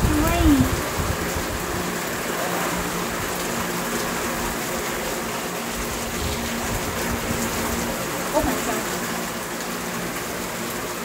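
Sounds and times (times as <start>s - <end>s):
heavy rain on plants and paving: 0.0s - 11.0s.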